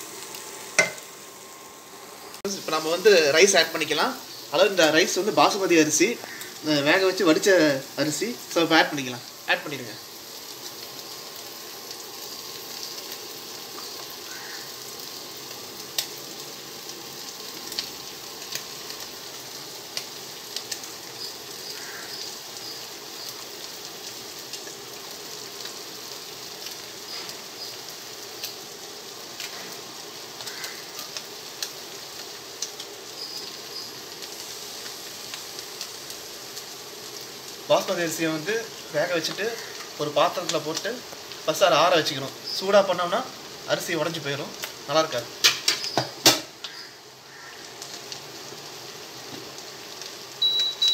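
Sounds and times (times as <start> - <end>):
vegetables and egg sizzling: 0.0 - 50.9.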